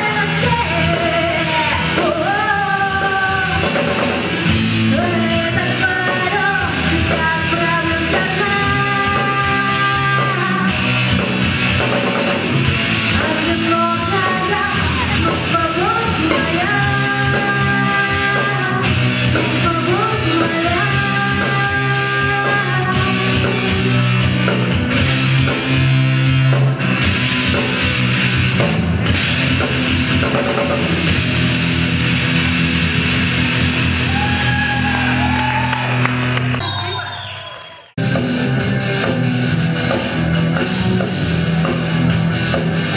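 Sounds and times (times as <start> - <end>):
heavy rock band playing: 0.0 - 36.6, 38.0 - 42.9.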